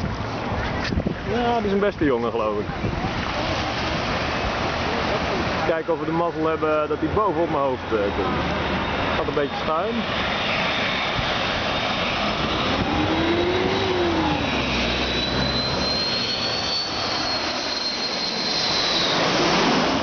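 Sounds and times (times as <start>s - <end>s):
high engine whine: 0.0s - 20.0s
jet airliner passing overhead: 2.6s - 20.0s.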